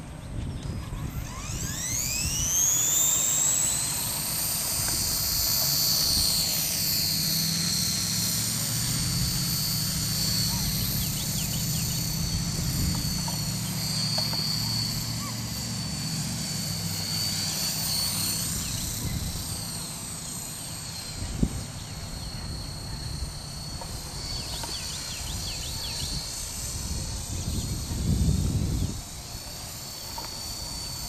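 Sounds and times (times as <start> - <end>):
low rotor buzz: 0.0 - 31.0
rc helicopter motor whine: 0.0 - 31.0.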